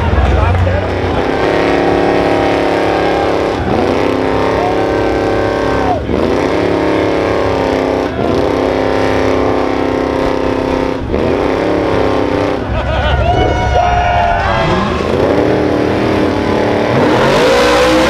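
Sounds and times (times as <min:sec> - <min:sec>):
truck engine revving high: 0:00.0 - 0:18.0.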